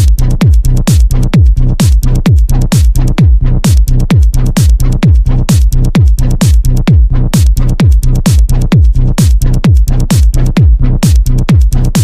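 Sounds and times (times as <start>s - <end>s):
bass line: 0.0s - 12.0s
hi-hats: 0.0s - 12.0s
techno kick drum: 0.0s - 12.0s.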